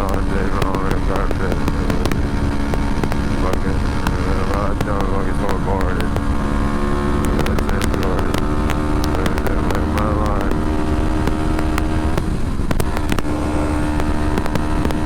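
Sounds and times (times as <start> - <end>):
motorcycle engine cruising: 0.0 - 15.0
sharp clicks: 0.0 - 15.0
wind and road rumble: 0.0 - 15.0.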